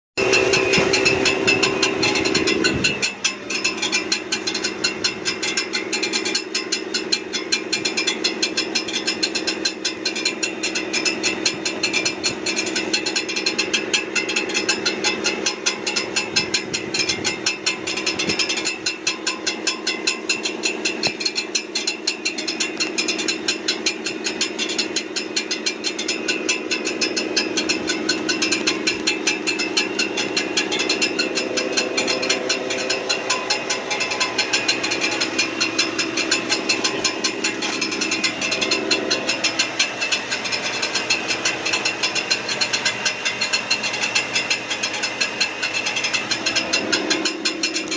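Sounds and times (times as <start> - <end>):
ticking clanking rattle: 0.2 - 47.9
truck engine hum: 0.2 - 47.9.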